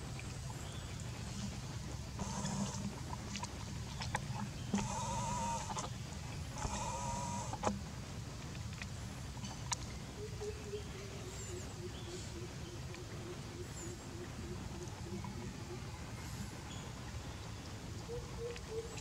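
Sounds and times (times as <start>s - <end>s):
faint steady drone: 0.0s - 19.0s.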